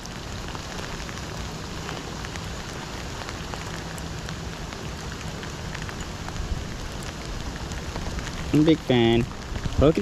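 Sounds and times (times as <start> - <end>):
heavy rain falling: 0.0 - 10.0
raindrops ticking: 0.0 - 10.0.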